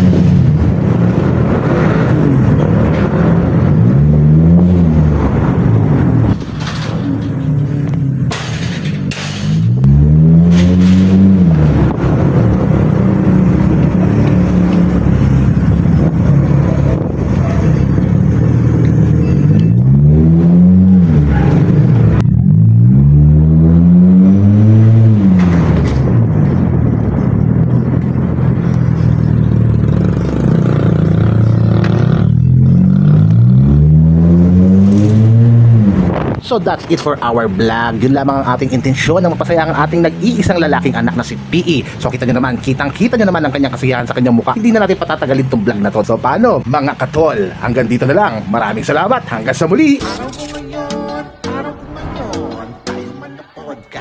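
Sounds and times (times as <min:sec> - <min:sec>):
engine revving: 0:00.0 - 0:50.0.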